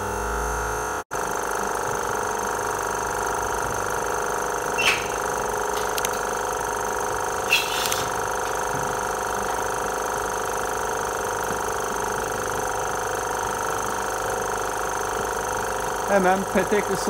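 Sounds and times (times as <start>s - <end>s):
electric pump humming: 0.0s - 17.0s.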